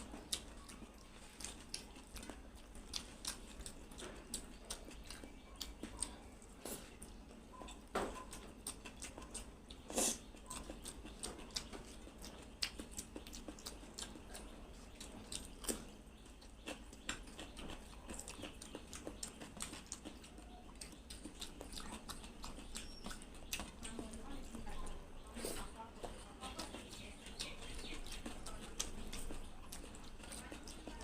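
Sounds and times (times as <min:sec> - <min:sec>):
wet chewing clicks: 0:00.0 - 0:31.0.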